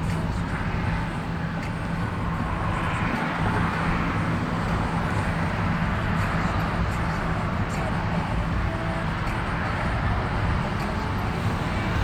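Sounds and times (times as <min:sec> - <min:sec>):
continuous rushing sound: 0:00.0 - 0:12.0
low engine hum: 0:00.0 - 0:12.0.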